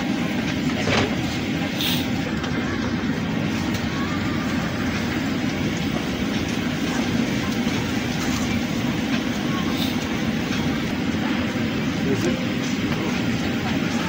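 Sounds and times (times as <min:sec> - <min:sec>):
airliner cabin rumble and hiss: 0:00.0 - 0:14.0.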